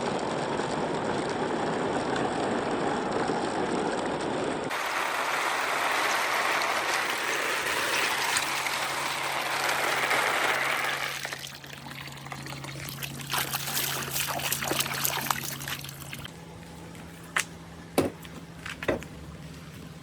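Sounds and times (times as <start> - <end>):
water pouring down a track: 0.0 - 16.3
faint steady hum: 0.0 - 20.0.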